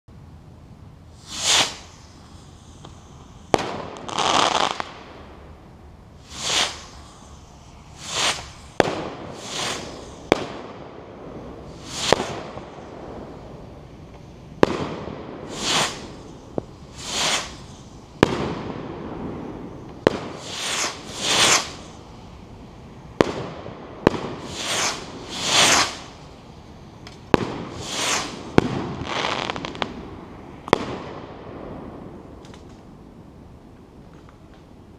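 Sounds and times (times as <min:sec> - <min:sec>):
firework rockets whooshing: 0:01.0 - 0:32.8
firework bursts cracking: 0:01.1 - 0:32.8.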